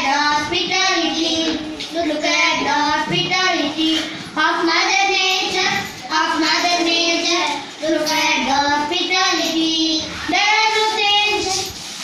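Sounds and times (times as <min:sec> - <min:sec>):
child singing: 0:00.0 - 0:11.8.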